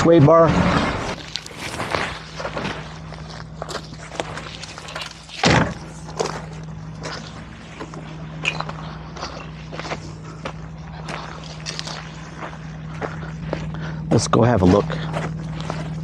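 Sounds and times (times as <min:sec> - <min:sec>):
vehicle engine humming low: 0:00.0 - 0:16.0
tyres crunching over rocks: 0:00.8 - 0:16.0.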